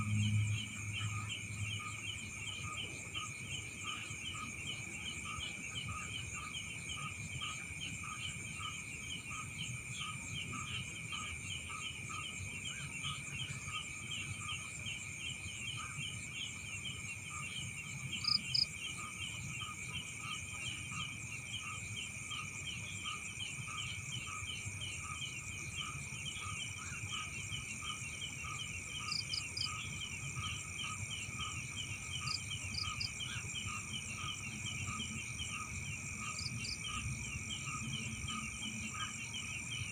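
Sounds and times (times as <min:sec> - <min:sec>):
insects trilling: 0:00.0 - 0:39.9
low pulsing insect call: 0:00.0 - 0:39.9.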